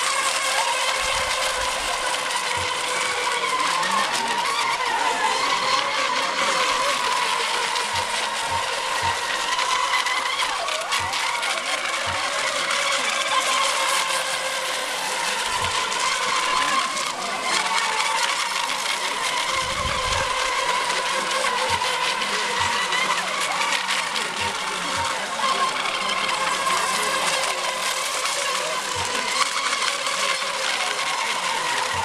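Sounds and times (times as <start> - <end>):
rc boat motors whining: 0.0 - 32.0.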